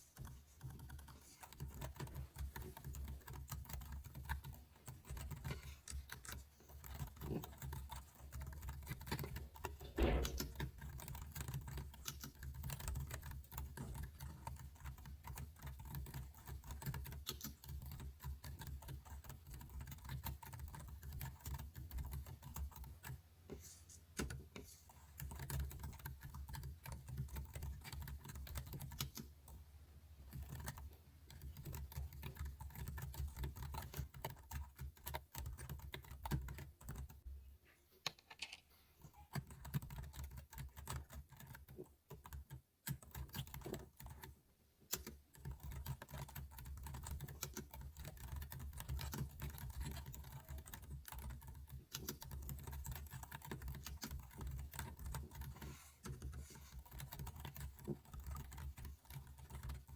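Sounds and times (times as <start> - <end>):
computer keyboard typing: 0.0 - 29.6, 30.3 - 37.2, 38.1 - 59.9.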